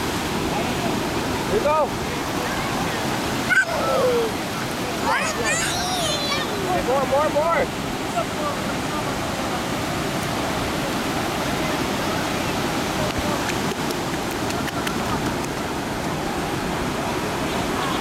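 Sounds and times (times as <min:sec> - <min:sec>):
ocean surf rushing: 0:00.0 - 0:18.0
waves washing over sand: 0:00.0 - 0:18.0.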